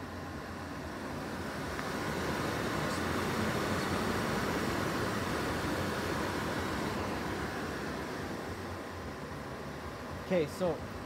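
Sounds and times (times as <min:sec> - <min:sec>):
furnace blower fan whooshing: 0:00.0 - 0:11.0.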